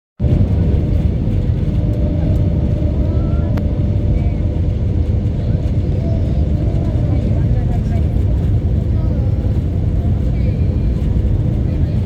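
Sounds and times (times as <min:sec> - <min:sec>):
jet engine cabin rumble: 0:00.2 - 0:12.0.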